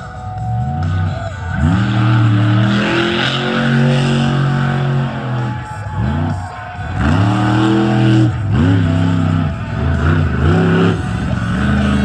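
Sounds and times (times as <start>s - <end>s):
monster truck engine revving: 0.6s - 12.0s.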